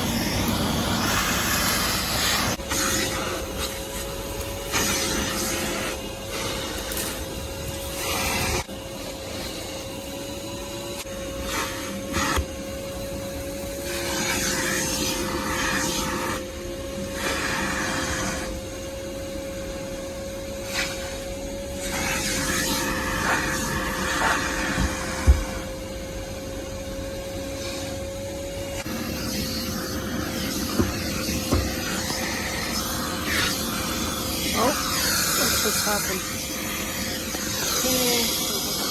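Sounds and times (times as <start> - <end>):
shop vacuum running: 0.0 - 38.9.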